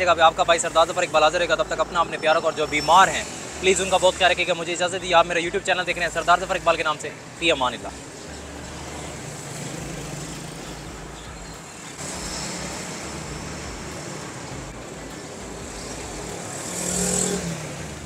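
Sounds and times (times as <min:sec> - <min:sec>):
rumble of passing vehicles: 0:00.0 - 0:18.0.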